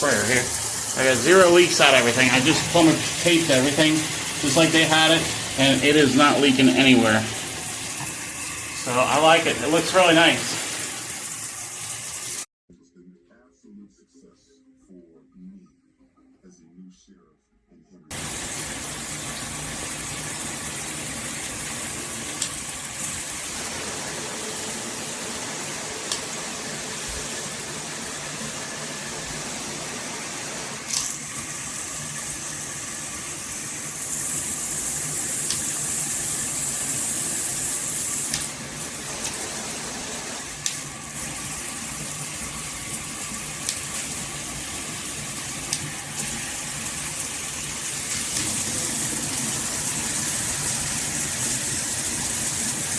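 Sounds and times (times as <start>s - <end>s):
shower head spraying water: 0.0s - 12.5s, 18.1s - 52.9s.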